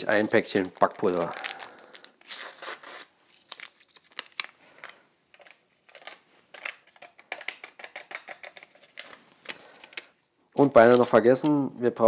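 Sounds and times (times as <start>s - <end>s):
paper packet rustling and tapping: 0.0s - 1.5s, 3.4s - 11.6s.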